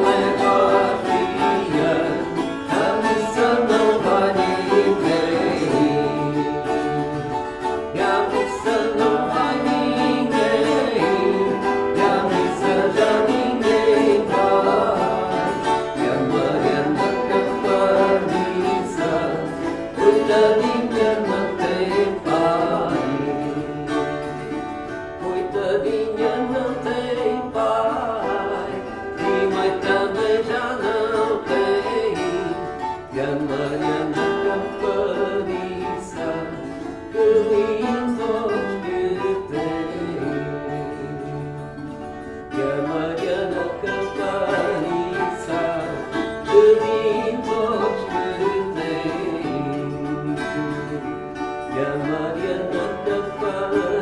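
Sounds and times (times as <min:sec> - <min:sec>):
plucked folk guitars: 0:00.0 - 0:54.0.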